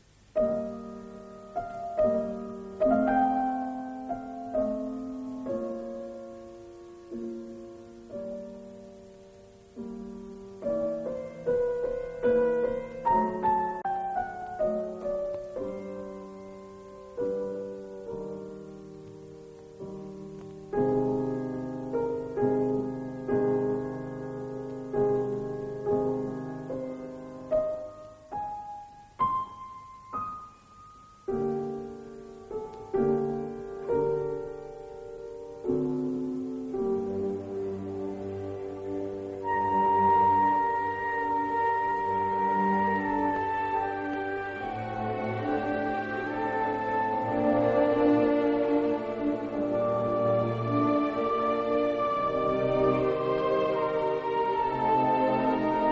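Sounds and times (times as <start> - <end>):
slow solo piano: 0.0 - 55.9.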